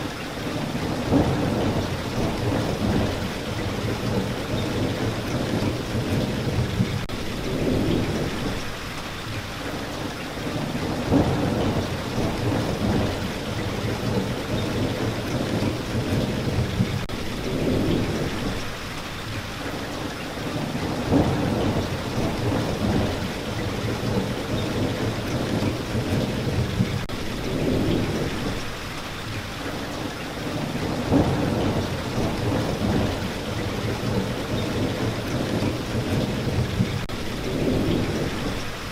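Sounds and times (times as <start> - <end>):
steady rain falling: 0.0 - 38.9
rolling thunder rumbles: 0.4 - 8.8, 10.4 - 18.7, 20.5 - 28.7, 30.4 - 38.9.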